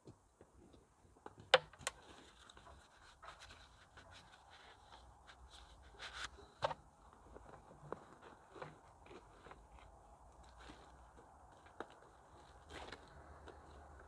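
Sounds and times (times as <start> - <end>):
small clicks and scrapes: 0.7 - 14.0.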